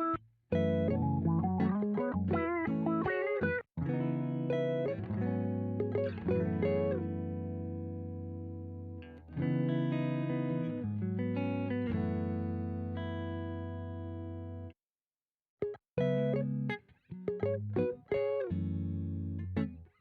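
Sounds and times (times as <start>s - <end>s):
electric guitar with effects: 0.0s - 14.6s, 16.0s - 19.8s.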